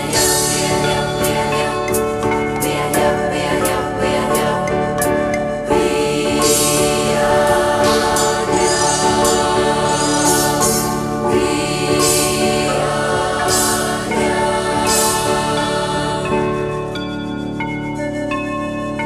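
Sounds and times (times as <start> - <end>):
choir singing: 0.0 - 17.4
sustained accompaniment: 0.0 - 19.0.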